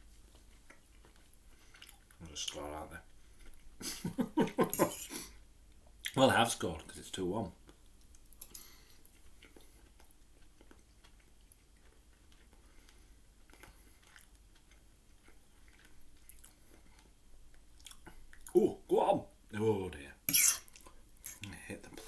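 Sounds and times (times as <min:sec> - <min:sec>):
wet chewing: 0:00.1 - 0:05.1, 0:07.6 - 0:18.6, 0:20.3 - 0:22.0.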